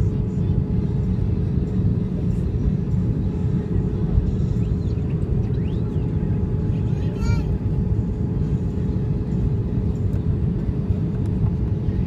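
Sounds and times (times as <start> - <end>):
aircraft cabin engine roar: 0.0 - 12.0
constant low hum: 0.0 - 12.0.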